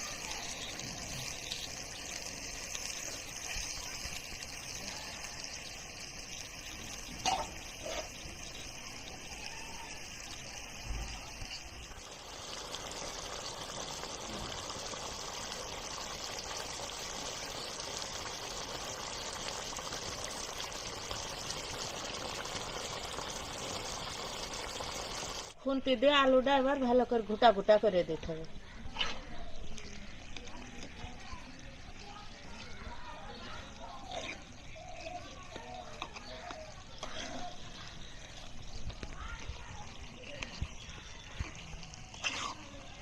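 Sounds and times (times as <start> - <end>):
curry bubbling in a pan: 0.0 - 25.6, 28.5 - 43.0.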